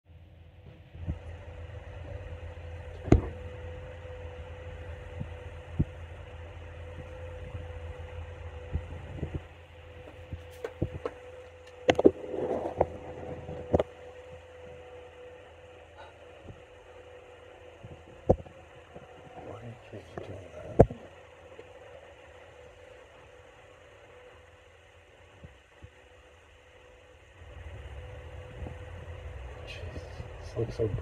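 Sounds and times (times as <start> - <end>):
machine hum: 0.1 - 31.0.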